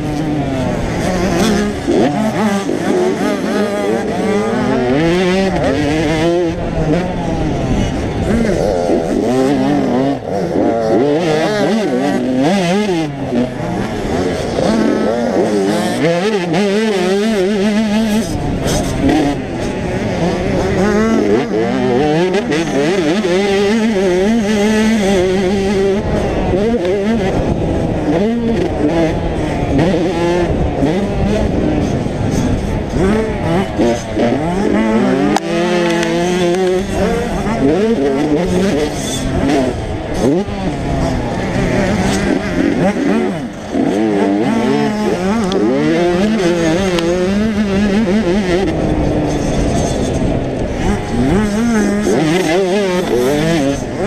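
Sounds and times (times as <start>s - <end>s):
two-stroke motorbike engine revving: 0.0s - 54.0s.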